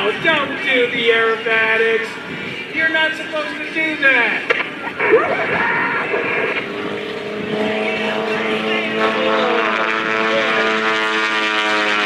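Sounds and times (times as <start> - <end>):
light plane engine and propeller drone: 0.0 - 12.0.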